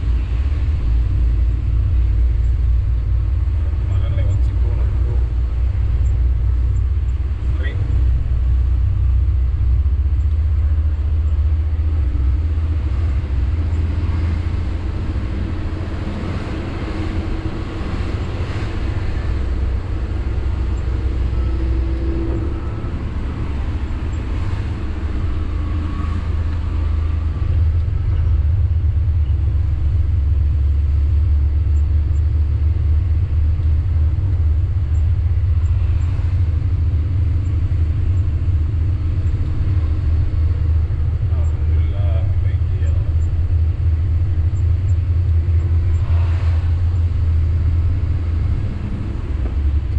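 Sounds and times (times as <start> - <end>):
dump truck engine and road rumble: 0.0 - 49.9.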